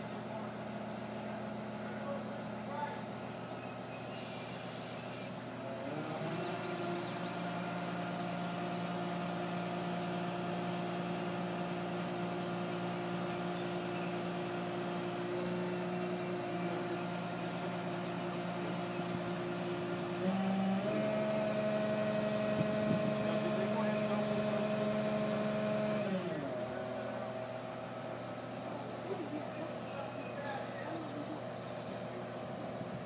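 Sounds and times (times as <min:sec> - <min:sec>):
crane diesel engine running: 0:00.0 - 0:33.0.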